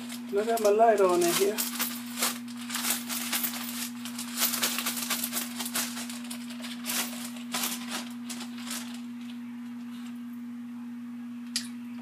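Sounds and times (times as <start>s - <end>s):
plastic bag rustling: 0.0s - 10.2s
low hum: 1.6s - 12.0s.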